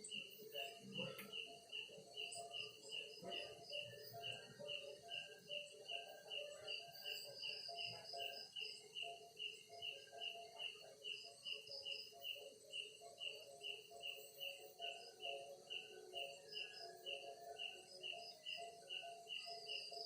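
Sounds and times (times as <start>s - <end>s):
crickets chirping: 0.0s - 20.0s
lower insect calls: 0.0s - 20.0s.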